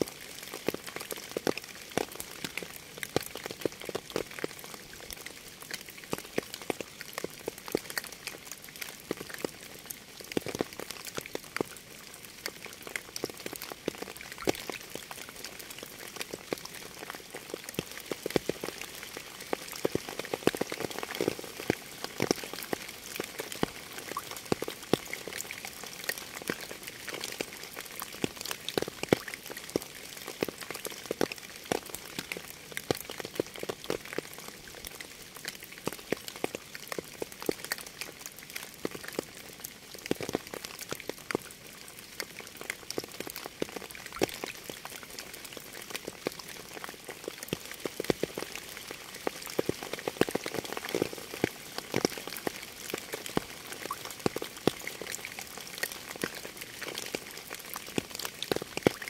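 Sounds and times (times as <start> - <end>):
raindrops ticking on surface: 0.0 - 59.0
steady rain hiss: 0.0 - 59.0.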